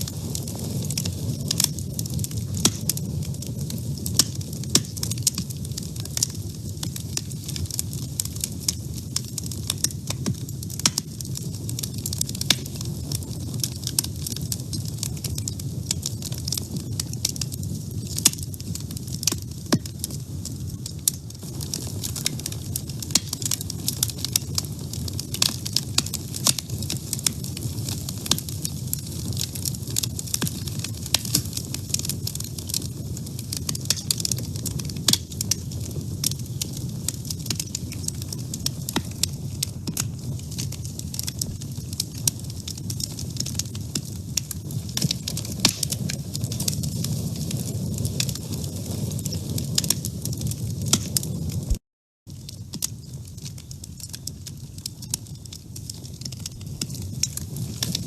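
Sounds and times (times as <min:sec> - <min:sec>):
wood fire crackling in stove: 0:00.0 - 0:58.0.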